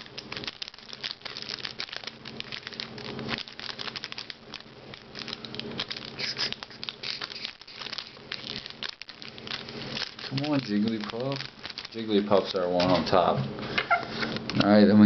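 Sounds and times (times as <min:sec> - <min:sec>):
foil wrapper crinkling: 0:00.0 - 0:13.4.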